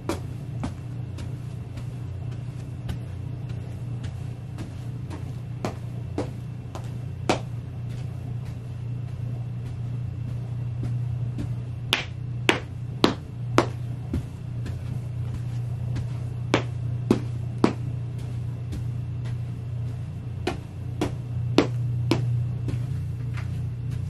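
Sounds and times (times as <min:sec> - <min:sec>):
boots stomping on plastic mat: 0:00.0 - 0:24.0
steady low hum: 0:00.0 - 0:24.0.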